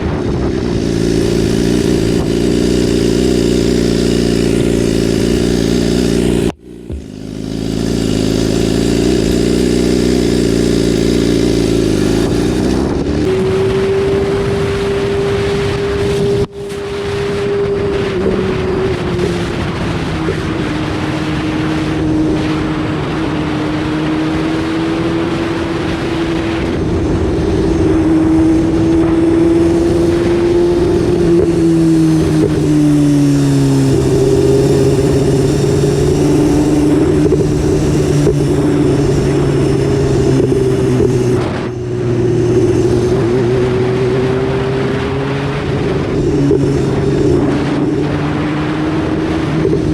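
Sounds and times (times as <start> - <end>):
motorcycle engine running: 0.0 - 49.9
rush of noise: 0.0 - 49.9.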